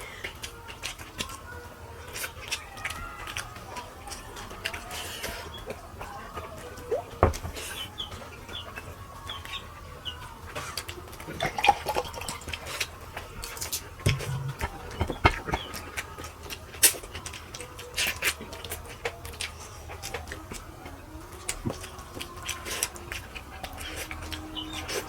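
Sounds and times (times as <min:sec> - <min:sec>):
clicks and knocks of eating: 0:00.0 - 0:25.0.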